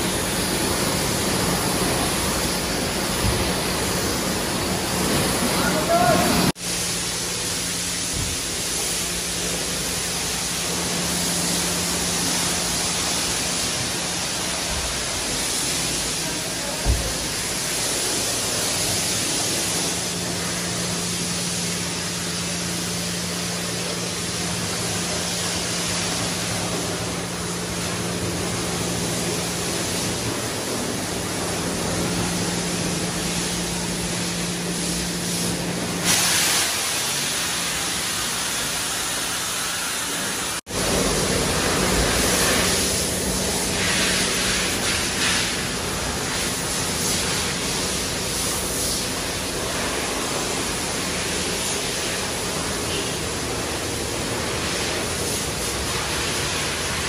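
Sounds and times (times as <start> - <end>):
high-pressure water spray hiss: 0.0 - 57.0
pump humming: 0.0 - 57.0.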